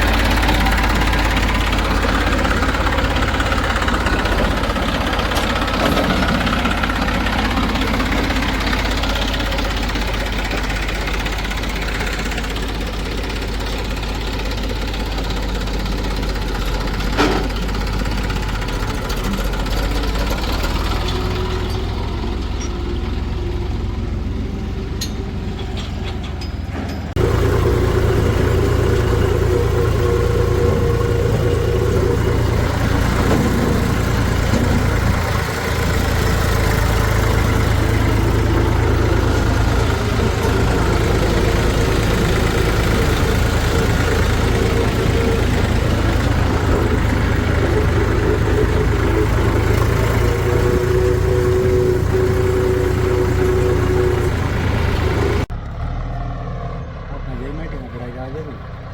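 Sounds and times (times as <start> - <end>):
diesel engines running: 0.0 - 58.9.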